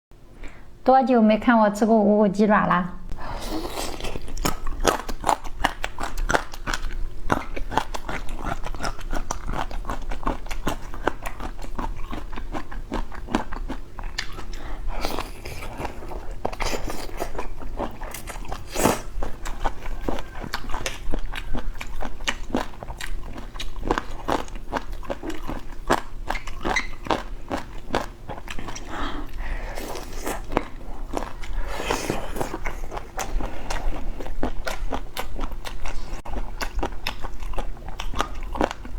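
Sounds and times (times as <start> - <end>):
close chewing and crunching: 3.4 - 38.9.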